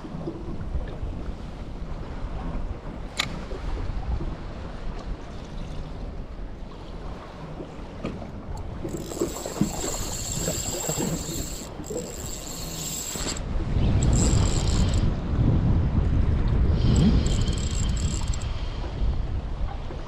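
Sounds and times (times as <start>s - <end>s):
water washing around boat: 0.0s - 20.0s
wind buffeting microphone: 0.0s - 20.0s.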